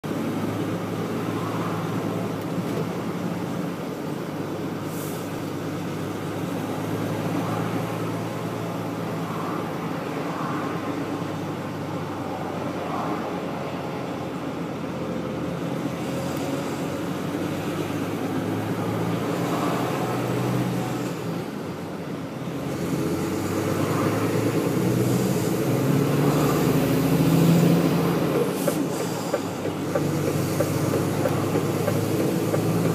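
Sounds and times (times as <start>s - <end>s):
vehicle engine and road noise: 0.0s - 32.9s.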